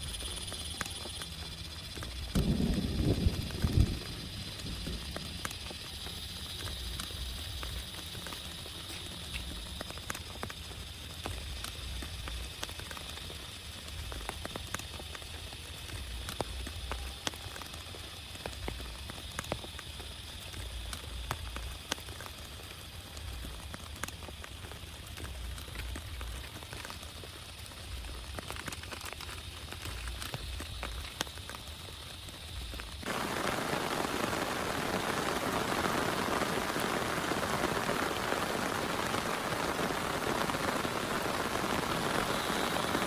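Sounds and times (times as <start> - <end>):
raindrops tapping on a surface: 0.0 - 43.0.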